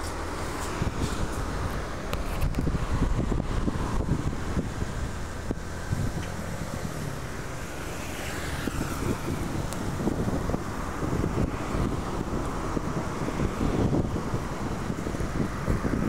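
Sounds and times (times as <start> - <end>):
road traffic: 0.0 - 16.0
wind buffeting microphone: 0.0 - 16.0.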